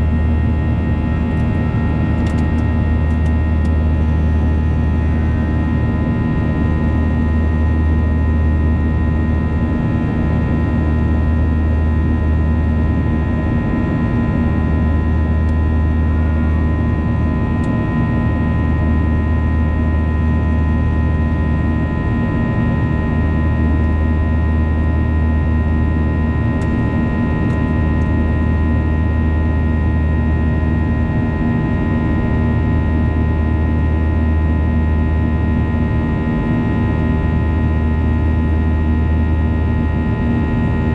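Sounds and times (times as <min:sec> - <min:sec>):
jet engines running: 0:00.0 - 0:40.9.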